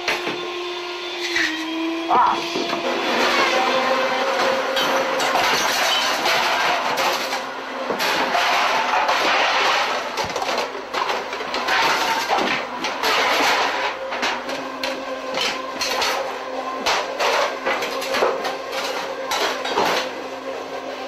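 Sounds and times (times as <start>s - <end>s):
utensils and cookware clattering: 2.6s - 20.3s.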